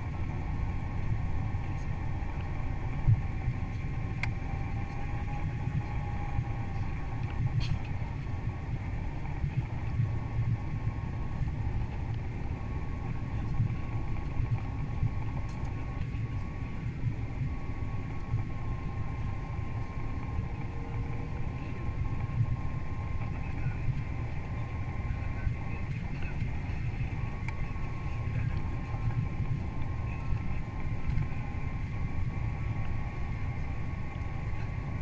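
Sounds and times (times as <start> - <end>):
airliner cabin rumble: 0.0 - 35.0
faint steady whine: 0.0 - 35.0.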